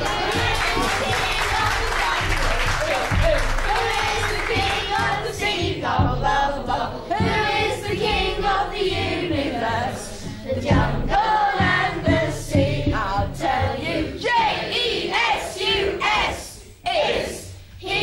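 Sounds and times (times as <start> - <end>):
children and woman singing: 0.0 - 18.0.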